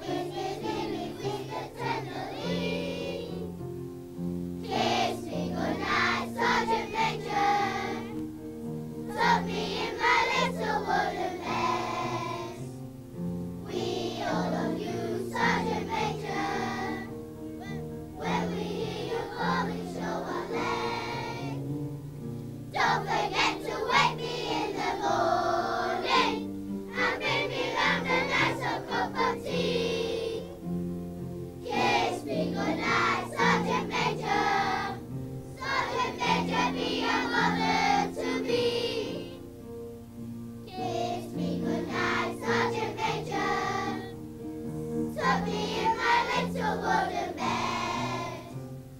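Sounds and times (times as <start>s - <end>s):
children's choir singing: 0.0s - 12.9s, 13.6s - 21.8s, 22.7s - 30.9s, 31.6s - 40.0s, 40.6s - 48.6s.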